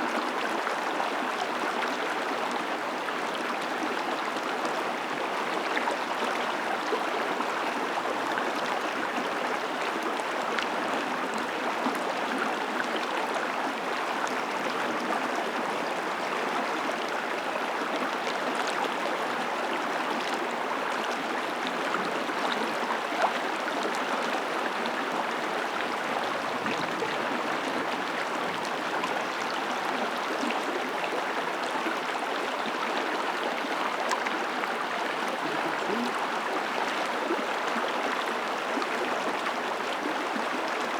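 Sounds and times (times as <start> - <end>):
creek water flowing: 0.0 - 40.9.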